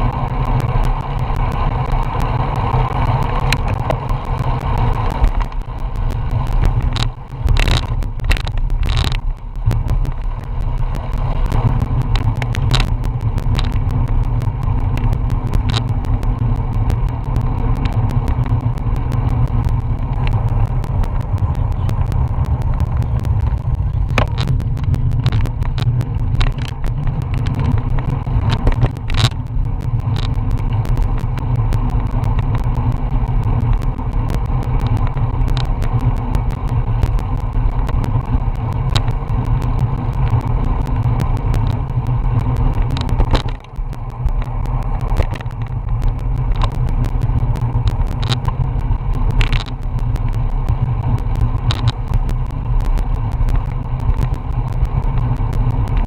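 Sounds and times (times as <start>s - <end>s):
sharp clicks: 0.0s - 56.0s.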